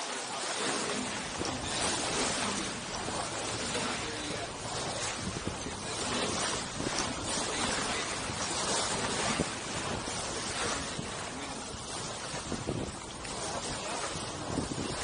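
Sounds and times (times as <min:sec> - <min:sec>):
bow wake washing along hull: 0:00.0 - 0:15.0
water splashes: 0:00.0 - 0:15.0
wind buffeting microphone: 0:00.6 - 0:15.0.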